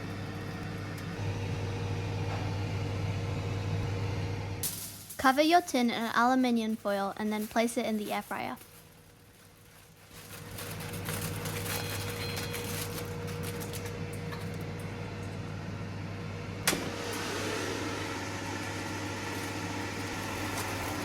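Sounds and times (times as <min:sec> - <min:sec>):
air fryer fan humming: 0:00.0 - 0:06.4, 0:09.9 - 0:21.0.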